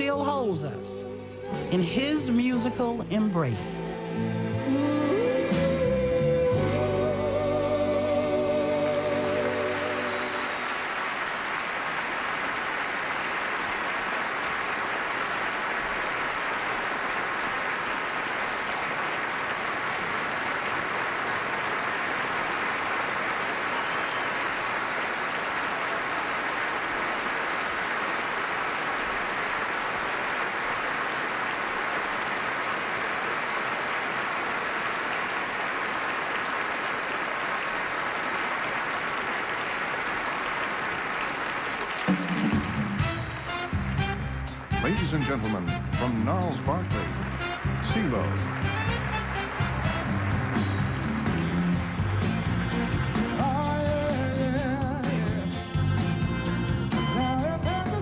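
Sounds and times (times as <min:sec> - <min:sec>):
large audience applauding: 0:07.6 - 0:57.2.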